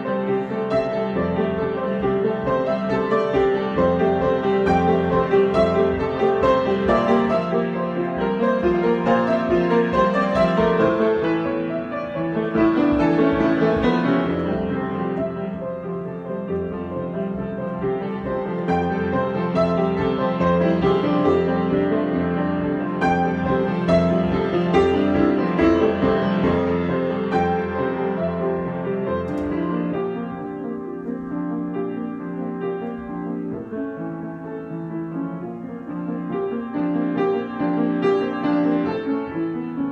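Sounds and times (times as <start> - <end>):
piano improvisation: 0.0 - 39.9.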